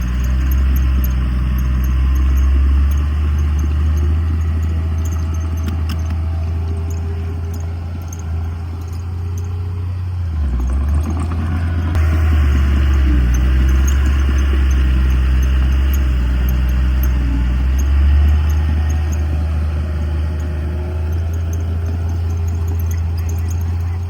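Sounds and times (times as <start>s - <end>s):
diesel engine running: 0.0s - 24.0s
light clatter: 0.0s - 24.0s.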